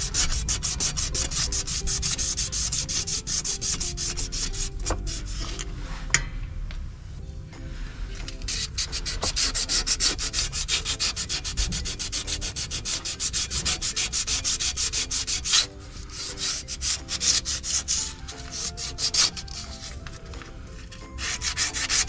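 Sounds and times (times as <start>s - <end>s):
sandpaper scuffing metal: 0.0s - 6.2s, 8.2s - 22.0s.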